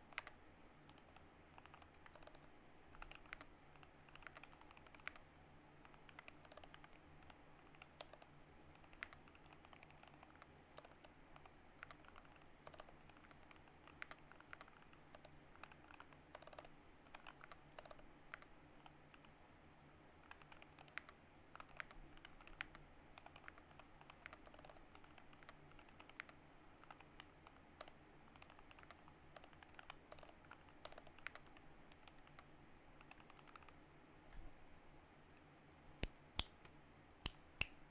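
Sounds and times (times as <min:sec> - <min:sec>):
mechanical keyboard typing: 0:00.1 - 0:05.2, 0:05.8 - 0:19.3, 0:20.2 - 0:33.8.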